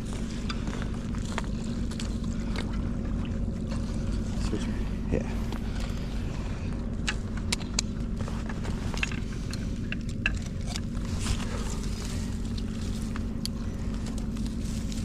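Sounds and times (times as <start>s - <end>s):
constant low hum: 0.0s - 15.0s
distant engine rumble: 0.0s - 15.0s.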